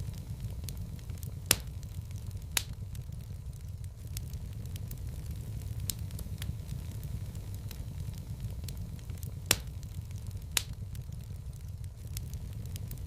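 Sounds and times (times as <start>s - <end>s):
loud sharp pops of fire: 0.0s - 13.0s
wood fire crackling: 0.0s - 13.0s.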